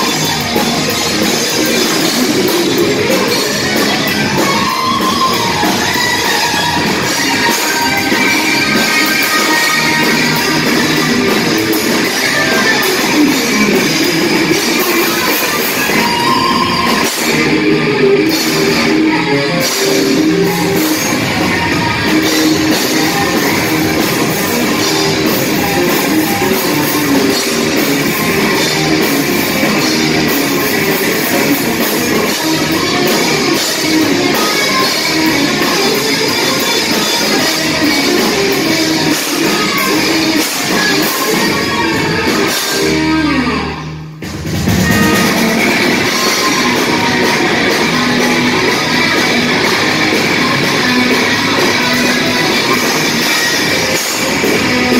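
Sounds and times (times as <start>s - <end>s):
bass guitar: 0.0s - 54.9s
drum kit: 0.0s - 54.9s
electric guitars: 0.0s - 54.9s.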